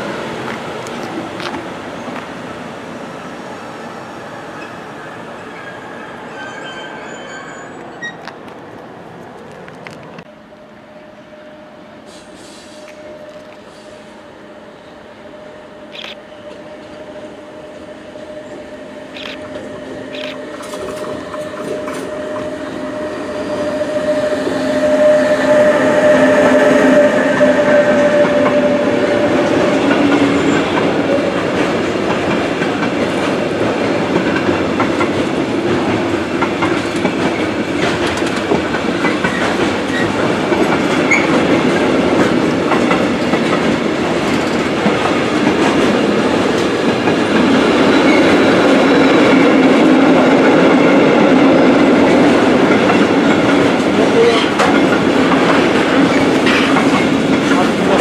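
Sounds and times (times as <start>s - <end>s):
train wheels rumbling on rails: 0.0s - 10.3s, 12.0s - 58.0s
electric locomotive whine: 0.0s - 58.0s.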